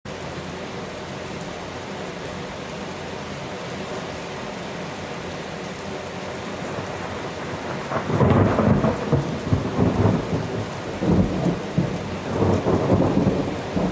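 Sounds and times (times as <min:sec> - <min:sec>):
heavy rain: 0:00.1 - 0:13.9.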